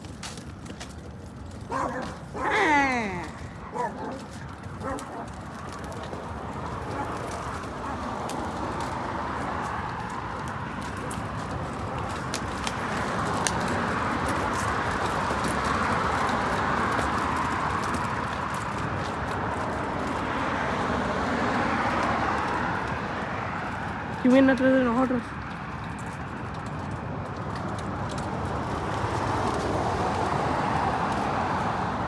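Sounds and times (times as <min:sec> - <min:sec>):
vehicle on the street: 0:00.0 - 0:32.0.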